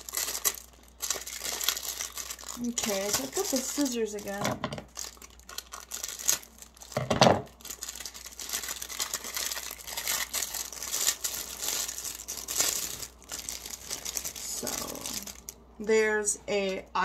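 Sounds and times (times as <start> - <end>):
plastic packaging rustling: 0.0 - 15.7.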